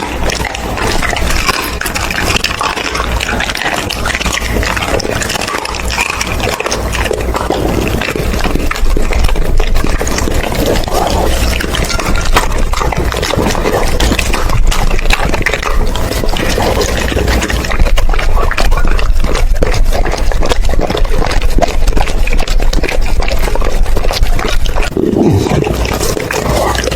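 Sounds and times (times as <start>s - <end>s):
crunching: 0.0s - 26.9s
dog chewing wetly: 0.0s - 26.9s.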